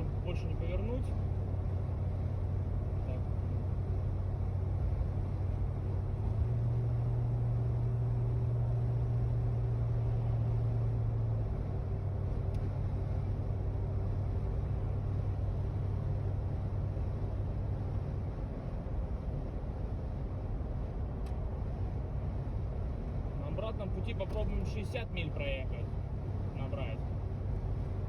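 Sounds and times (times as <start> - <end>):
road and wind noise: 0.0 - 28.0
van engine droning: 0.0 - 28.0.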